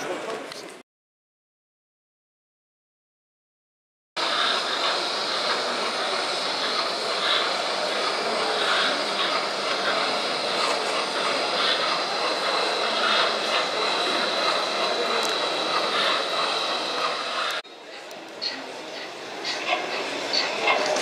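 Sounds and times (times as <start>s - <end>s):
exhibition hall din: 0.0s - 0.8s, 4.2s - 21.0s
faint indistinct voices: 0.0s - 0.8s, 4.2s - 21.0s.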